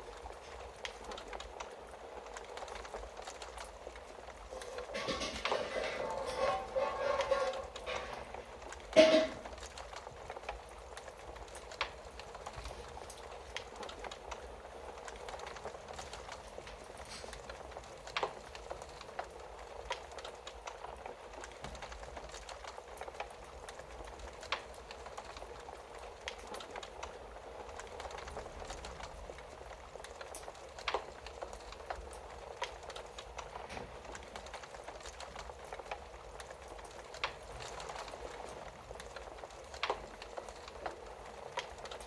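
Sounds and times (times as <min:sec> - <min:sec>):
fire crackling and popping: 0:00.0 - 0:42.0
fire hissing: 0:00.0 - 0:42.0.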